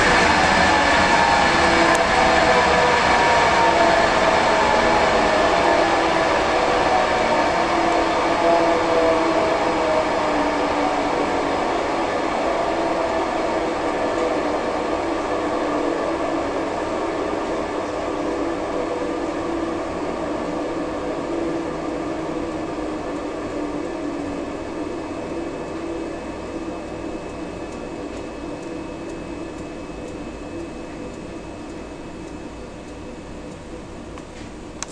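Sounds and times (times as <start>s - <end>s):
organ blower motor winding down: 0.0s - 29.8s.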